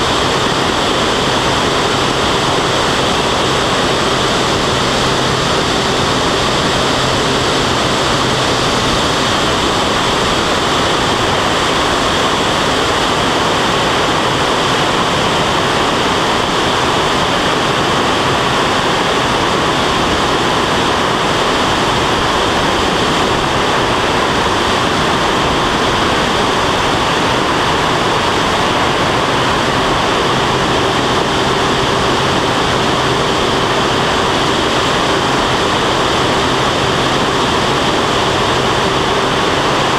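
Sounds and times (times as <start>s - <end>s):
faint engine and propeller drone: 0.0s - 39.9s
rushing wind noise: 0.0s - 39.9s.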